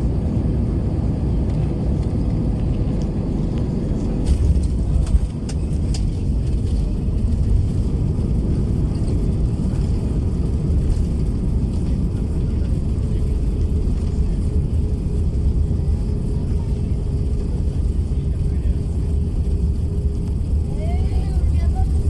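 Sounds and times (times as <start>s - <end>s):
low cabin rumble: 0.0s - 22.0s.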